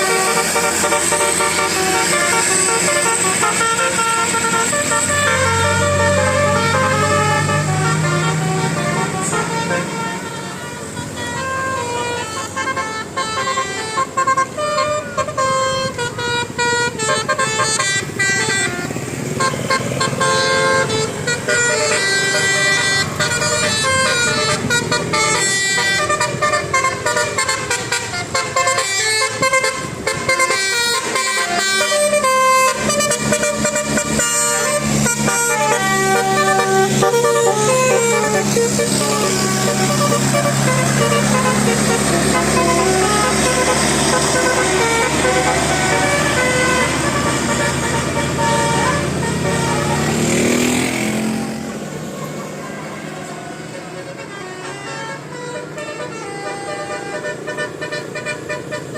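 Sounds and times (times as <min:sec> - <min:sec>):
multi-tone bus horn tune: 0:00.0 - 0:58.9.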